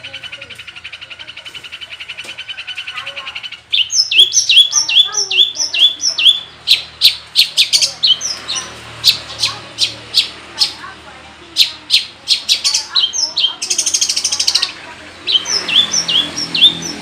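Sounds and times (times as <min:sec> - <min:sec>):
bird singing trills and chips: 0:00.0 - 0:17.0.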